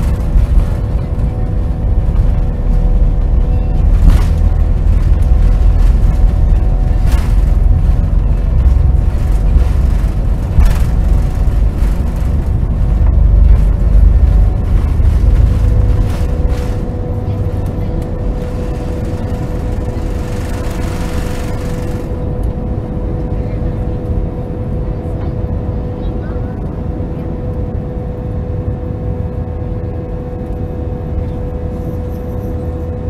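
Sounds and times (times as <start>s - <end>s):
jet engine noise: 0.0s - 33.0s
wheels rumbling on runway: 0.0s - 33.0s.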